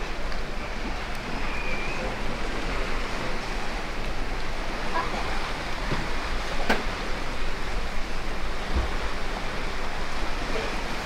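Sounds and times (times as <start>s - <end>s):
open sea: 0.0s - 11.0s.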